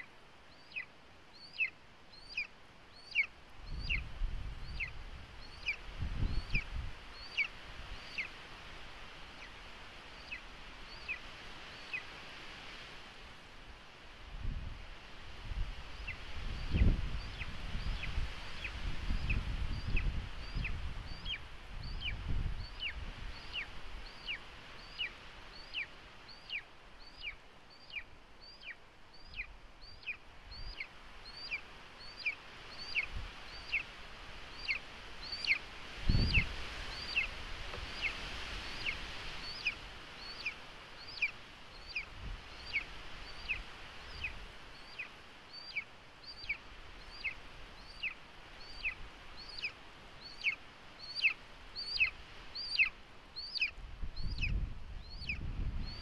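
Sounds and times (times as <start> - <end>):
eagle chick begging calls: 0.5 - 8.4, 15.9 - 56.0.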